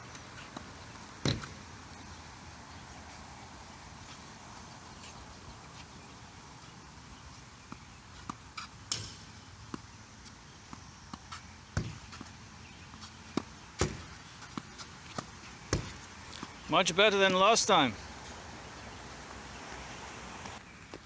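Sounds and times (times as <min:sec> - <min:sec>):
steady background hiss: 0:00.0 - 0:20.8.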